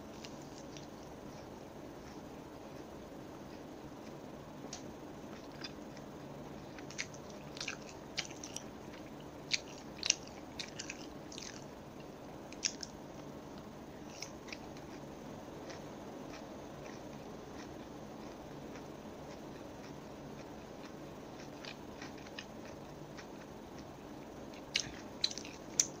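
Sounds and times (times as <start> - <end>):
chewing crispy chicken: 0.0 - 26.0
low background noise: 0.0 - 26.0.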